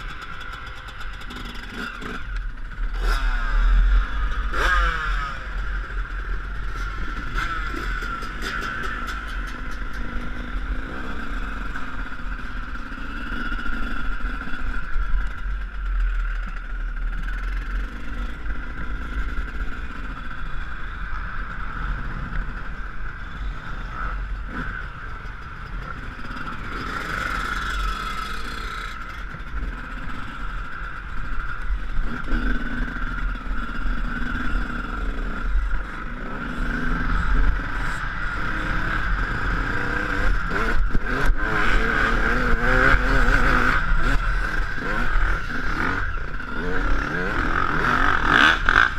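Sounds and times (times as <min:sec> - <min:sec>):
motocross engine revving: 0:00.0 - 0:15.0, 0:16.2 - 0:48.9.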